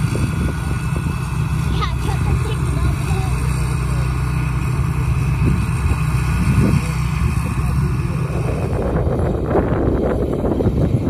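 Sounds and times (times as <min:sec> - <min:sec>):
broad rushing noise: 0:00.0 - 0:11.0
combine harvester engine drone: 0:00.0 - 0:11.0.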